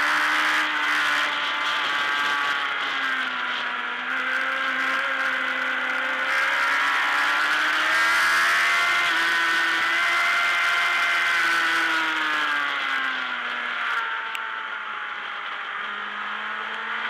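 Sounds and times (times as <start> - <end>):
racing motorcycle engine revving: 0.0 - 17.0.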